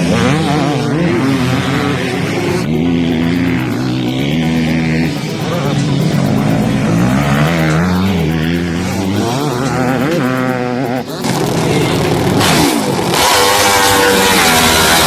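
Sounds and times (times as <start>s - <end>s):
hissy engine climbing in pitch: 0.0s - 15.0s
motocross bike engines revving: 0.0s - 15.0s.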